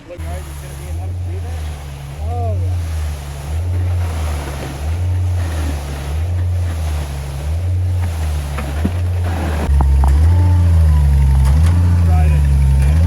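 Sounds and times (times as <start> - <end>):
diesel truck engine running: 0.0 - 13.0
wind buffeting microphone: 0.2 - 13.0.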